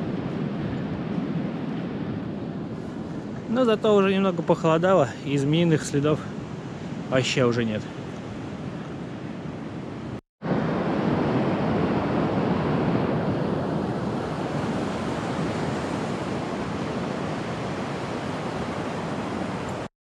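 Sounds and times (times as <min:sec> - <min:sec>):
surf washing onto beach: 0:00.0 - 0:09.4, 0:10.1 - 0:19.9
wind on microphone: 0:00.0 - 0:19.9.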